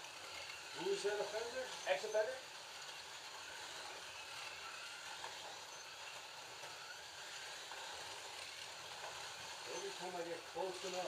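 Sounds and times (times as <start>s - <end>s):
slot cars whirring on track: 0.0s - 11.0s.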